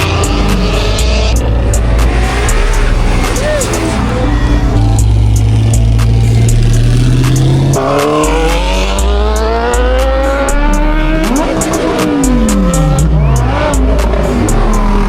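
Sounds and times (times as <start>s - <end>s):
car engine accelerating: 0.0s - 15.0s
music with heavy bass and hi-hat: 0.0s - 15.0s.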